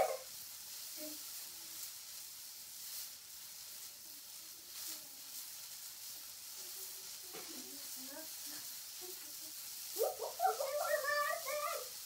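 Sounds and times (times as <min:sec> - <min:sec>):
faint steady hiss: 0:00.0 - 0:12.0
hula hoops swishing: 0:00.0 - 0:12.0.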